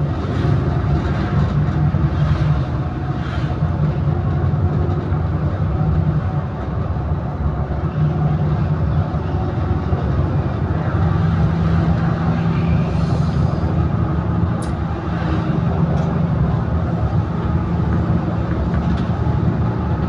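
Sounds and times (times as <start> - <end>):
road noise: 0.0 - 20.0
vehicle engine running steadily: 0.0 - 20.0.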